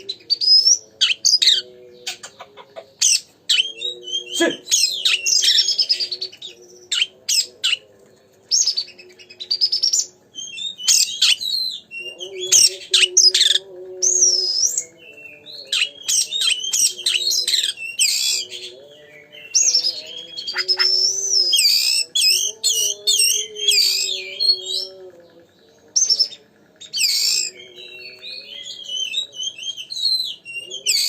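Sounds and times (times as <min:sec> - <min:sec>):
bird singing whistles and chatter: 0:00.0 - 0:02.4, 0:03.0 - 0:07.9, 0:08.5 - 0:31.0.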